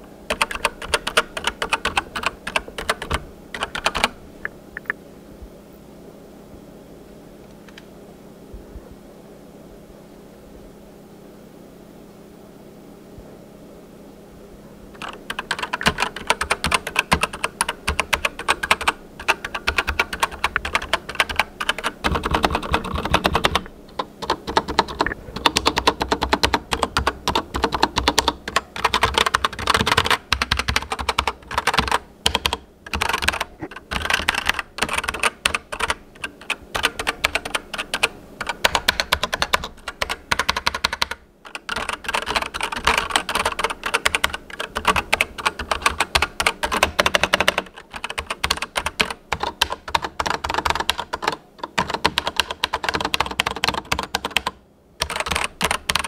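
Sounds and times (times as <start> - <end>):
mechanical keyboard typing: 0.3 - 4.2, 15.0 - 56.0.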